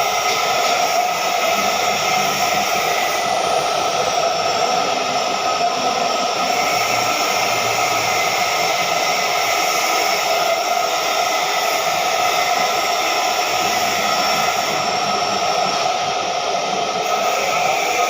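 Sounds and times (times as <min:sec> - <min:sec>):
welding arc hissing: 0:00.0 - 0:18.0.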